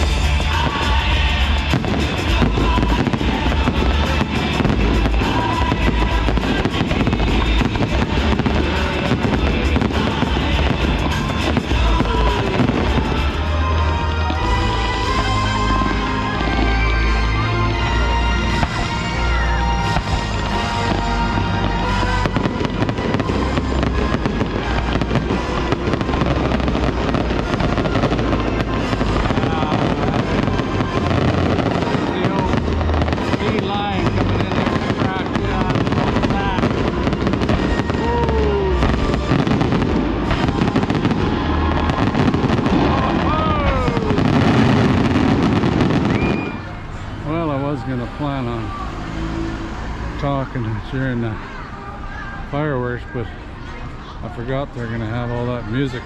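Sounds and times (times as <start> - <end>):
low rumble: 0.0 - 50.8
fireworks popping and banging: 0.0 - 51.5
loud music: 0.0 - 56.0.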